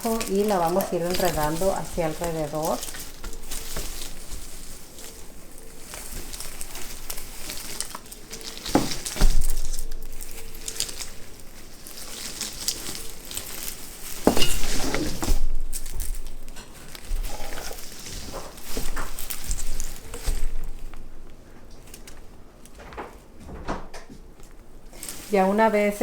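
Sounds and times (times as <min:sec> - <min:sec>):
fairy lights rustling and clicking: 0:00.0 - 0:22.8.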